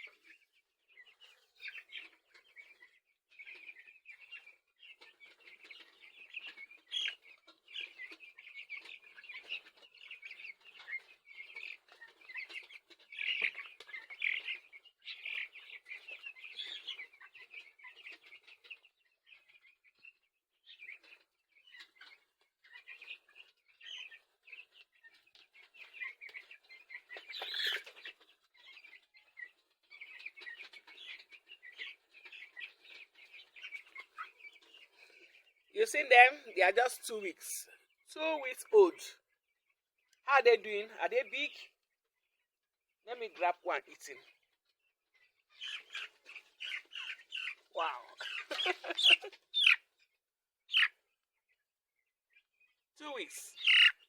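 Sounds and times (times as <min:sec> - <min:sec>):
chicks peeping: 0:00.0 - 0:42.4, 0:43.0 - 0:51.6, 0:52.3 - 0:54.0.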